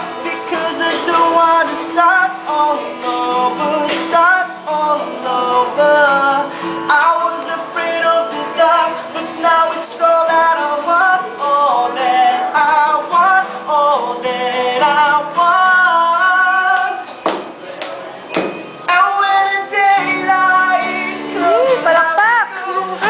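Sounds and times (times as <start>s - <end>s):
man singing: 0.0s - 17.2s, 18.8s - 23.0s
acoustic guitar: 0.0s - 23.0s.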